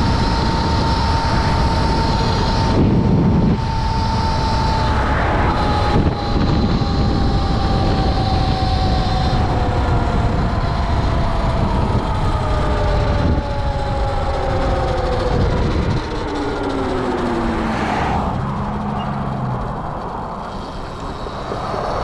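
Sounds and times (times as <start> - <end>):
electric motor whining: 0.0 - 22.0
road rumble: 0.0 - 22.0
wind rush: 0.0 - 22.0.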